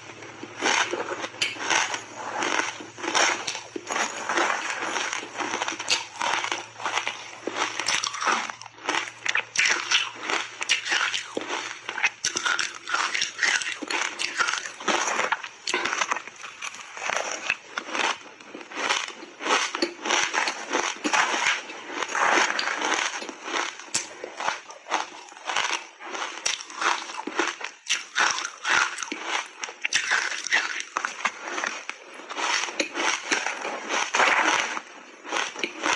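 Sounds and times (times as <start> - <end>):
ice crunching between teeth: 0.0 - 35.9.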